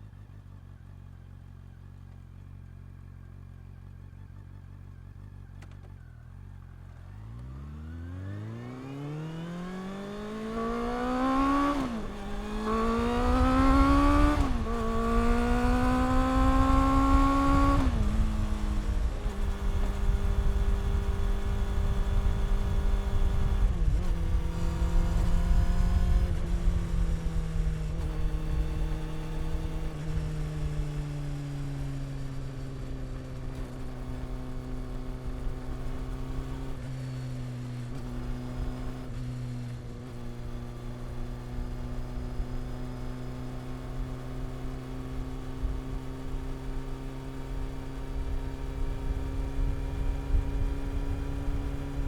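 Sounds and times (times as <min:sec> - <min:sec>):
motorcycle engine and exhaust: 0:00.0 - 0:52.0.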